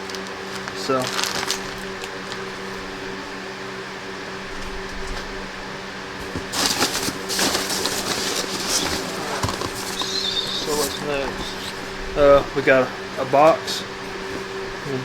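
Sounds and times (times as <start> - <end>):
packaging rustling and crinkling: 0.0 - 3.5, 4.2 - 15.0
low room hum: 0.0 - 15.0.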